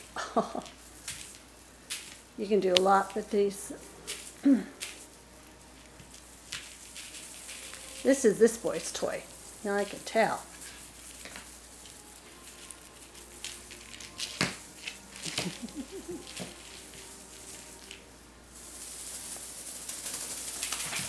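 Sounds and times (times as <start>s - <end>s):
tinsel streamers rustling: 0.0s - 21.0s.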